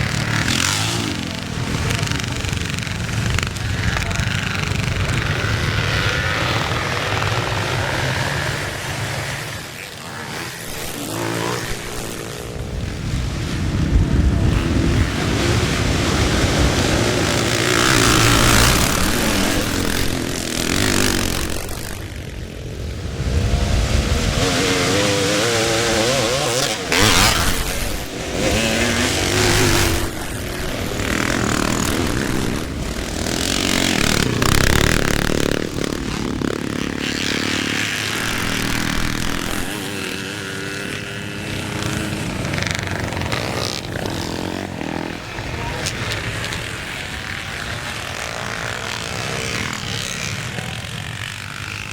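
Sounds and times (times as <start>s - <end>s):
motocross bikes revving past: 0.0s - 51.9s.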